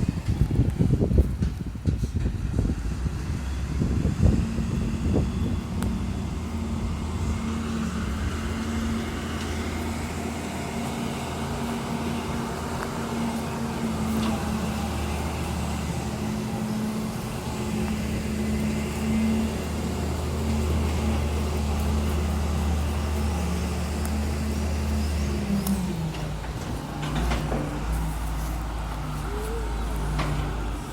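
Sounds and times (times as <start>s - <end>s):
heavy machinery engine running: 0.0s - 30.9s.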